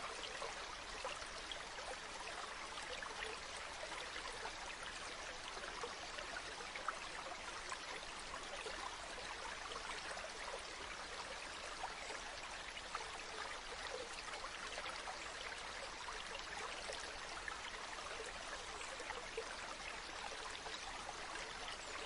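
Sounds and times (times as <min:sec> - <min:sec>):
stream running over rocks: 0:00.0 - 0:22.0.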